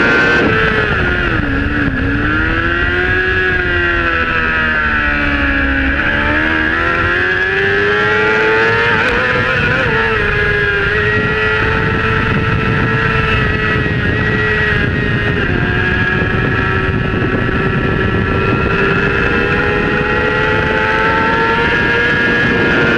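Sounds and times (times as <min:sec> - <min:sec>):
motorcycle engine at high revs: 0:00.0 - 0:22.9
wind noise over microphone: 0:00.0 - 0:22.9.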